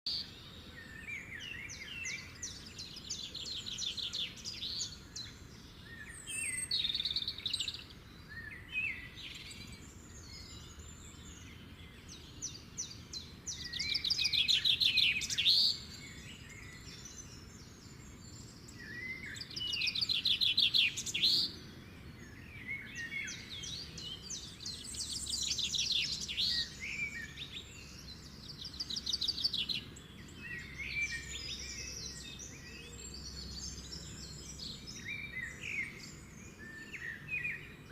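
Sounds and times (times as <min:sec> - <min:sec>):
small birds singing: 0:00.0 - 0:37.9
faint background hiss: 0:00.1 - 0:37.9.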